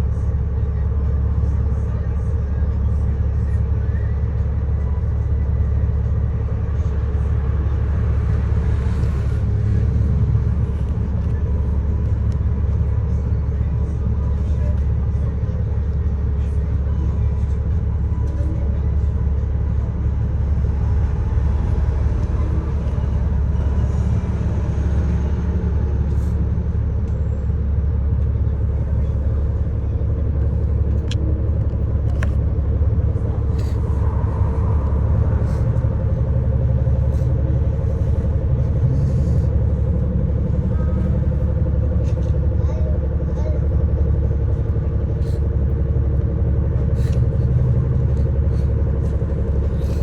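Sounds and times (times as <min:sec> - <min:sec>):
bus engine rumble: 0:00.0 - 0:50.0
road noise: 0:00.0 - 0:50.0.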